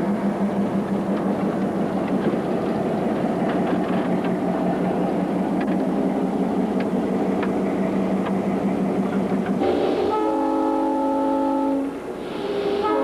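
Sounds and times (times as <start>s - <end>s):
locomotive deep hum: 0.0s - 13.0s.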